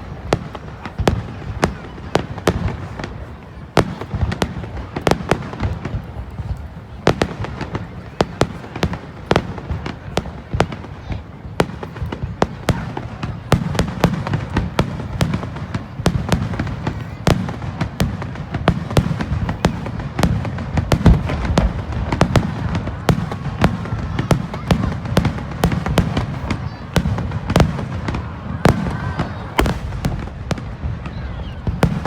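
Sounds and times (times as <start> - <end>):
fireworks cracking and popping: 0.0 - 32.0.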